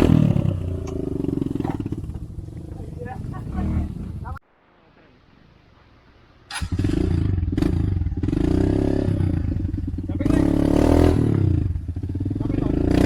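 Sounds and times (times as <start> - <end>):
motorcycle engine revving: 0.0 - 4.4, 6.5 - 13.0.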